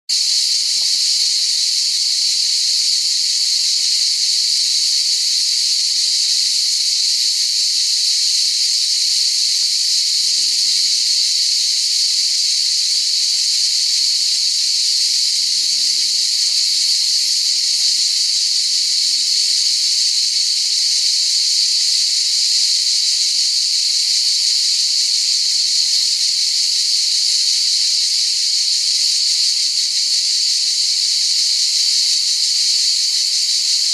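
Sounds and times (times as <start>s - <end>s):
cicadas buzzing: 0.1s - 33.9s.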